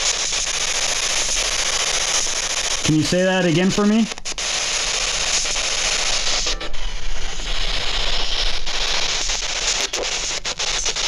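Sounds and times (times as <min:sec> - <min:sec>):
radio scanner static hiss: 0:00.0 - 0:11.0.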